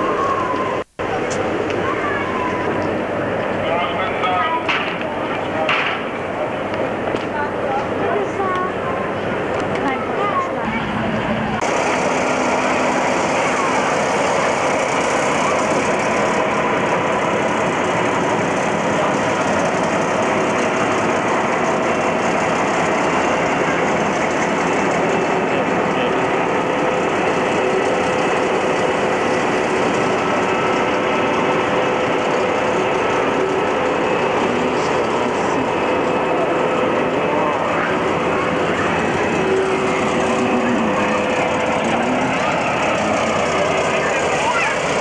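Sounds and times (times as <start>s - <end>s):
train running steadily: 0.0s - 45.0s.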